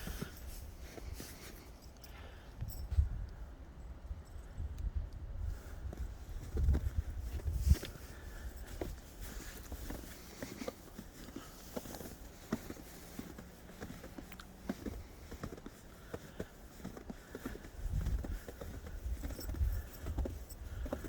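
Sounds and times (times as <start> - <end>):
footsteps crunching in snow: 0.0 - 1.9, 5.5 - 21.0.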